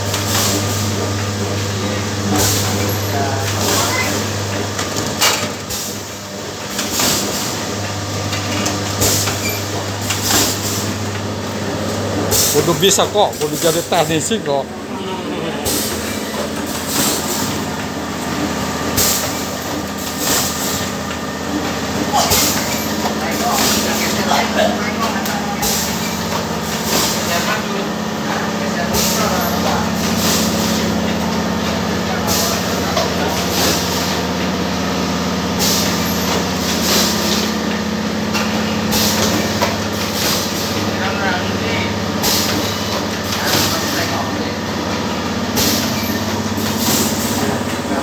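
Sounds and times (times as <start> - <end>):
machine humming: 0.0 - 48.0.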